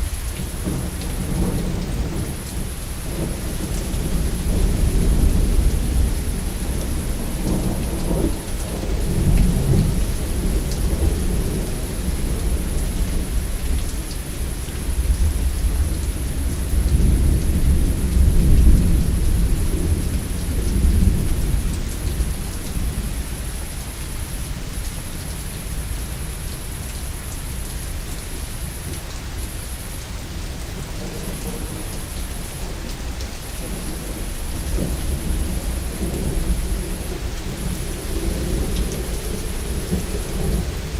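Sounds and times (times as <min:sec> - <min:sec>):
thunder rumbling: 0:00.0 - 0:23.5, 0:30.8 - 0:40.9
heavy rain: 0:00.0 - 0:40.9.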